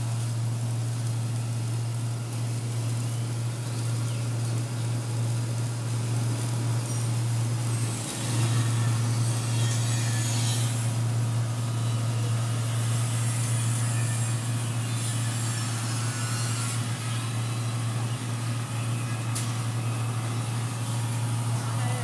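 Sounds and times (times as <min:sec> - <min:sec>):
huller machine humming and hissing: 0:00.0 - 0:22.0.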